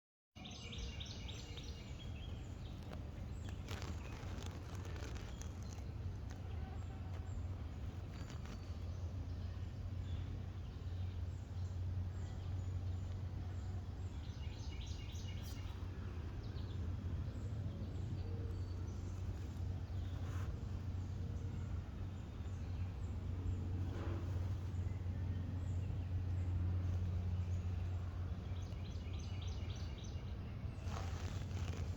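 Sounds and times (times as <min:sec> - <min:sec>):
birds chirping: 0:00.4 - 0:31.9.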